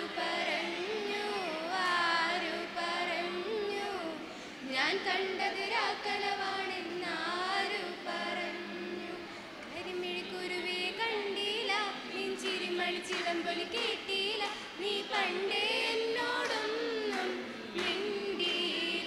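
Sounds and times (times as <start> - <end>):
group of people singing: 0.0 - 19.0.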